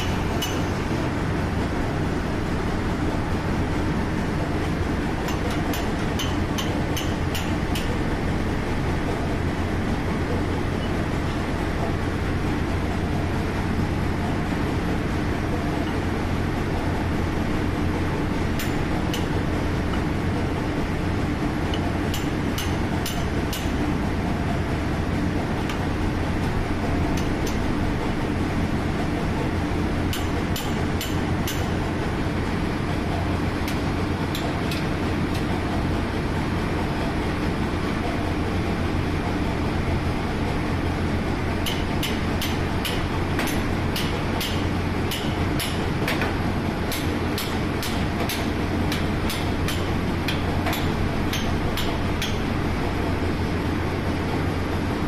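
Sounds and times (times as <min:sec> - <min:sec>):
engine room machinery drone: 0:00.0 - 0:55.0.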